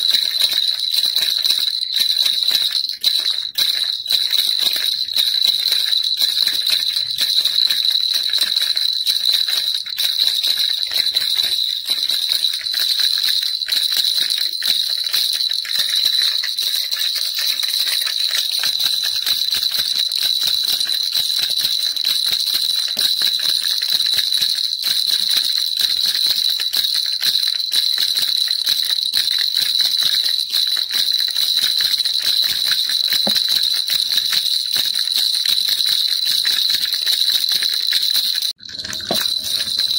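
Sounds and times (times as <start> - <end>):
toy rattle shaken: 0.0 - 39.9.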